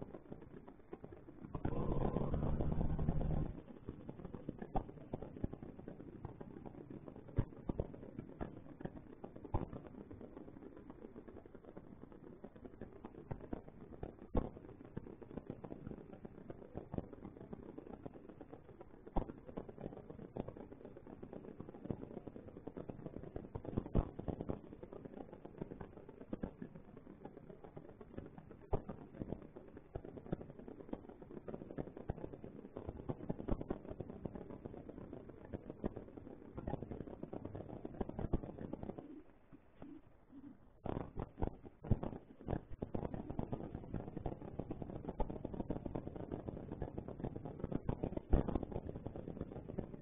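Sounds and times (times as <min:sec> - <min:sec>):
faint microphone hiss: 0:00.0 - 0:50.0.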